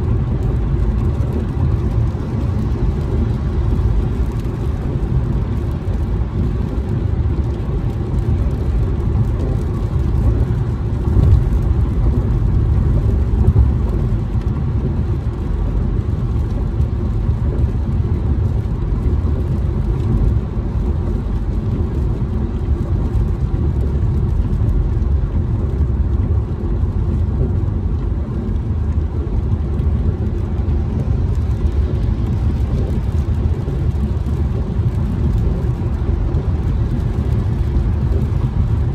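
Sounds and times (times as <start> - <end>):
car engine: 0.0 - 38.9
tyre and road noise: 0.0 - 38.9.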